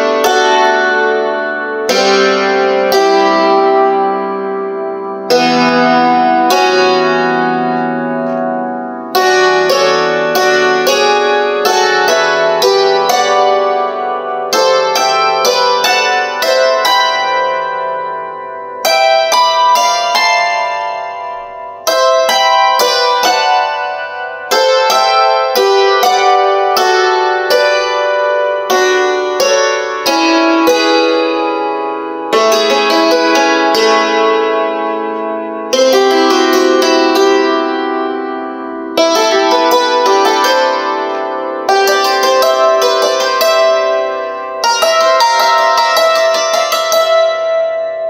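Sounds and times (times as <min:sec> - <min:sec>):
hammered dulcimer playing: 0:00.0 - 0:48.0.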